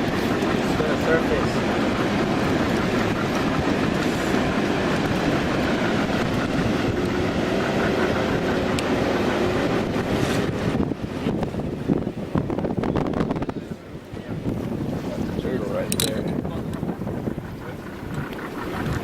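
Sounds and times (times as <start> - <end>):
small boat motor rumbling: 0.0 - 19.0
water rushing along hull: 0.0 - 19.0.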